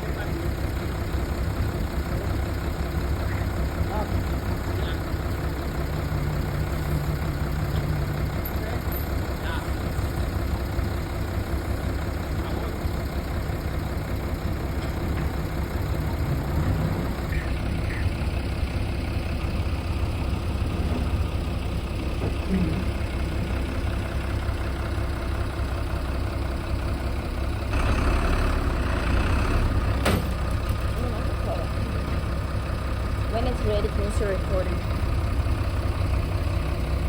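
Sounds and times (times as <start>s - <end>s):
diesel engine rumbling: 0.0s - 37.0s.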